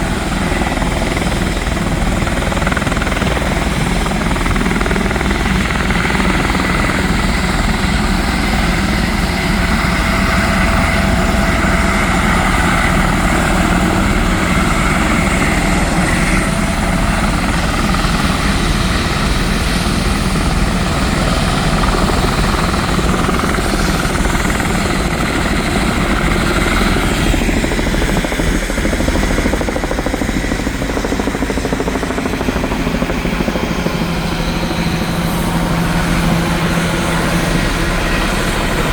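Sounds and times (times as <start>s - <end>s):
helicopter rotor rumble: 0.0s - 38.9s
helicopter turbine whine: 0.0s - 38.9s.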